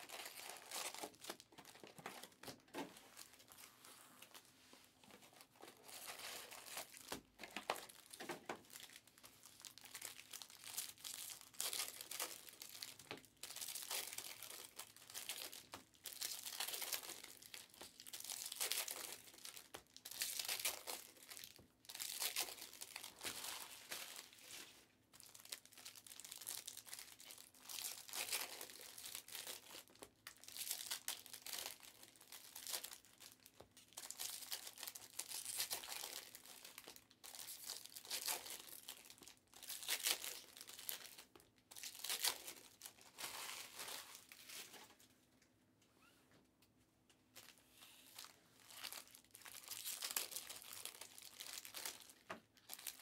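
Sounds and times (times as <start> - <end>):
foil wrappers crinkling and tearing: 0.0 - 3.7, 5.0 - 45.0, 48.2 - 53.0.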